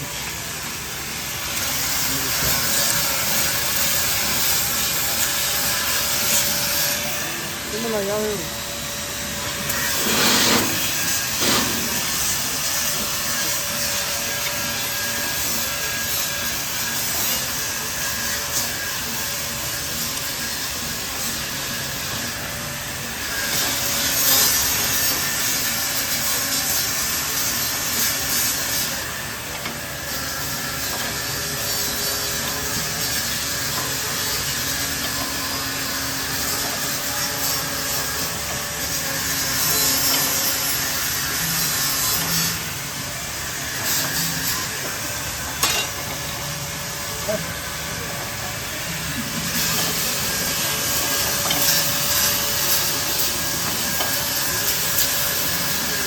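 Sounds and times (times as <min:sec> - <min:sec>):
grinder grinding: 0:00.0 - 0:56.0.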